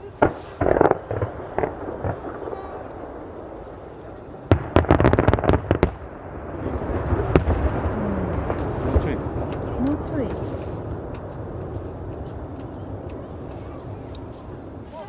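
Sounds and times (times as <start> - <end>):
distant fireworks cracks: 0.0 - 15.0
rumble of firework bursts: 0.0 - 15.0.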